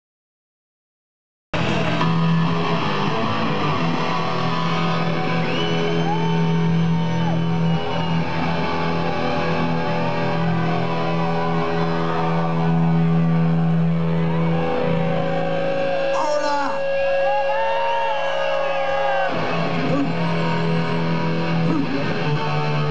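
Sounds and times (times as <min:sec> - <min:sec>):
amplified guitars droning: 0:01.6 - 0:22.9
crowd shouting: 0:01.6 - 0:22.9.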